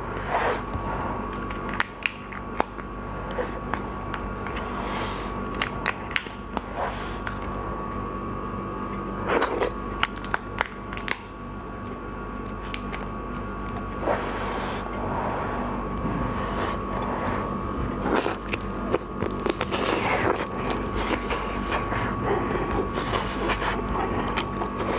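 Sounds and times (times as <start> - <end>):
steady background hum: 0.0 - 24.9.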